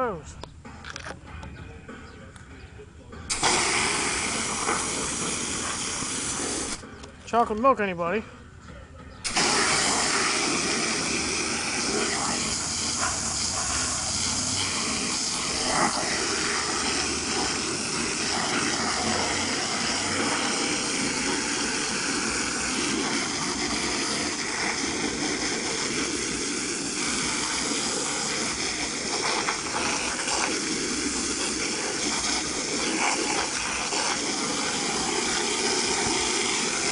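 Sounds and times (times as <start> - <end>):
garden hose spraying water: 3.3 - 6.8, 9.2 - 36.9.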